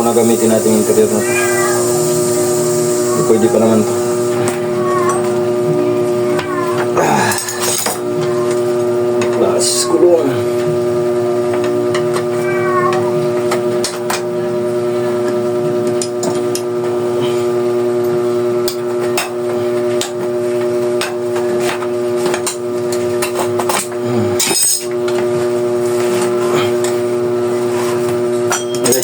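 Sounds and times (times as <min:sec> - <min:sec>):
droning hum: 0:00.0 - 0:29.0.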